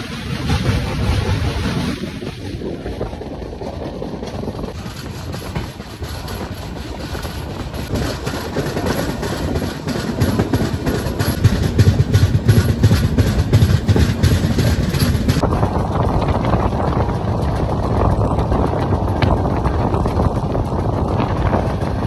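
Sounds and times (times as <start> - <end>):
rail clicks: 0.0 - 22.0
train wheel and rail noise: 0.0 - 22.0
wind buffeting microphone: 0.0 - 22.0.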